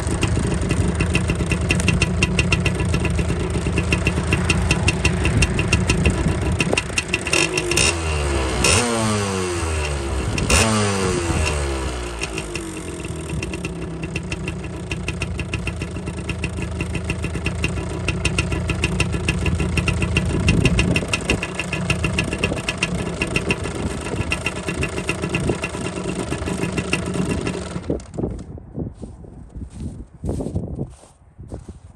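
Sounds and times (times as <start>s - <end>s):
two-stroke engine revving and idling: 0.0s - 28.4s.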